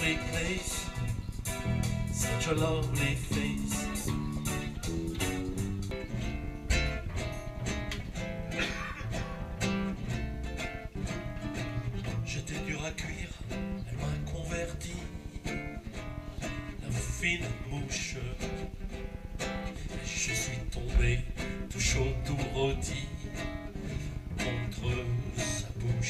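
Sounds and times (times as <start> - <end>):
bass line: 0.0 - 26.0
strummed guitar: 0.0 - 26.0.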